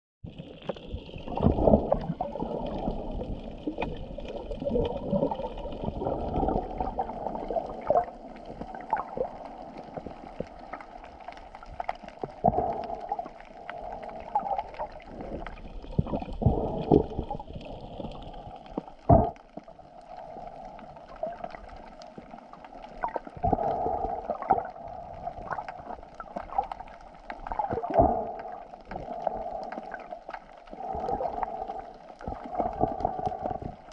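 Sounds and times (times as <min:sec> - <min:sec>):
muffled underwater sloshing: 0:00.3 - 0:33.9.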